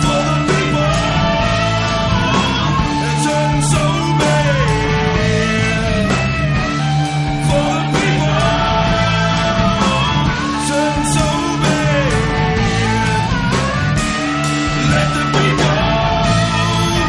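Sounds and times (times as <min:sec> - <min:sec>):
person singing: 0:00.0 - 0:17.0
rock song with guitar: 0:00.0 - 0:17.0.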